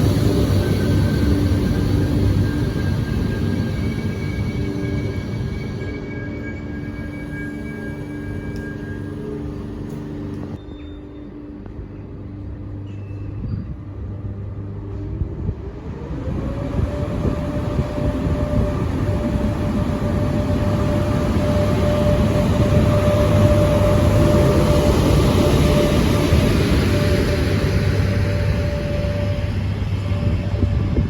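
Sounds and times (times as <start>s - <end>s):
rising whine: 0.0s - 31.0s
train rumble: 0.0s - 31.0s.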